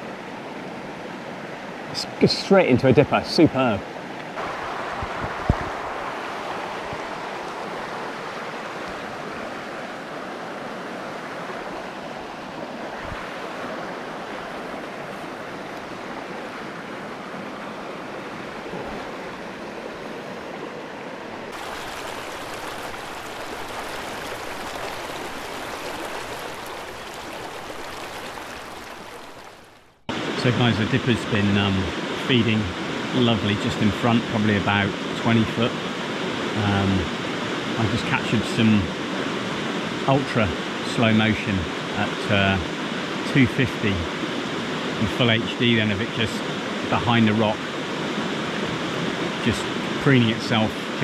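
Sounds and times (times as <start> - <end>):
stream rushing over stones: 0.0 - 51.0.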